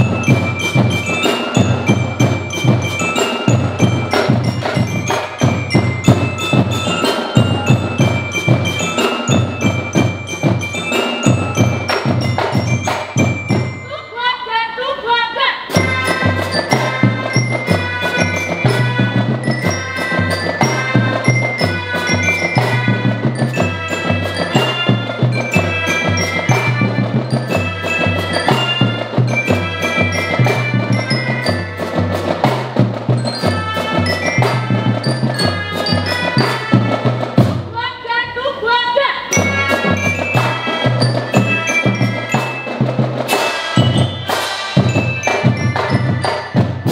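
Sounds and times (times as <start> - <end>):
marching band playing: 0.0 - 46.9.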